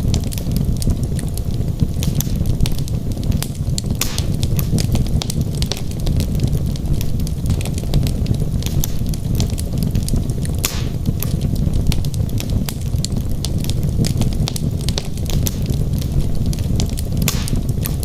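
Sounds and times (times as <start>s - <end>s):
logs crackling and popping: 0.0s - 18.0s
low rumble of flames: 0.0s - 18.0s.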